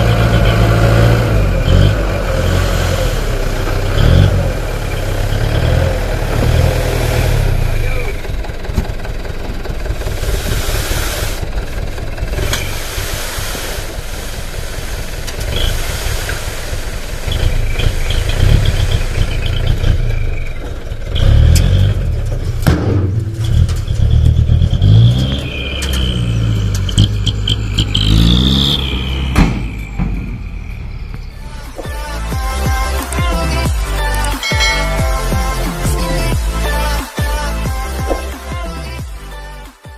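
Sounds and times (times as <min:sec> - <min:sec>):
diesel truck engine revving: 0:00.0 - 0:39.7.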